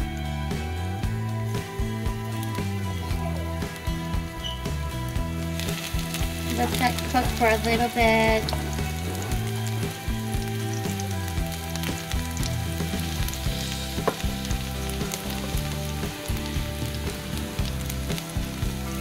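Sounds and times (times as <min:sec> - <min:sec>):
garlic sizzling in oil: 0:00.5 - 0:19.0.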